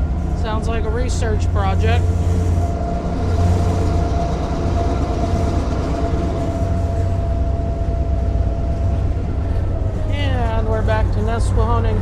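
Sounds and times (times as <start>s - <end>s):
diesel engine drone: 0.0s - 12.0s
high whine: 0.0s - 12.0s.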